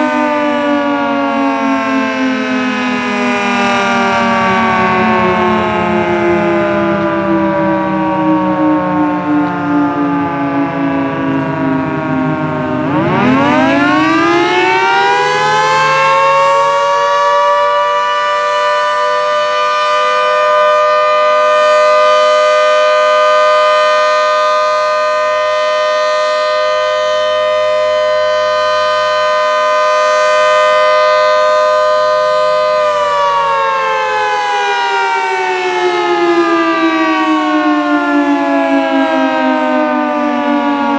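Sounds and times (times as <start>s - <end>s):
two-tone mechanical siren: 0.0s - 40.9s.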